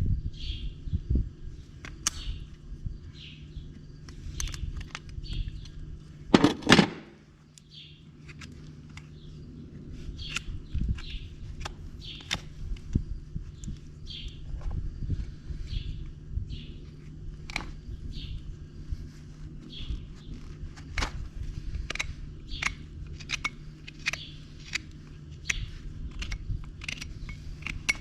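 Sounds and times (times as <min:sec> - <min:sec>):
small birds chirping: 0:00.3 - 0:06.3, 0:07.2 - 0:28.0.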